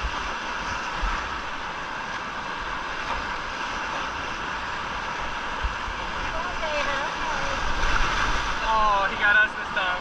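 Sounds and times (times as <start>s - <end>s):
whitewater river rushing: 0.0s - 10.0s.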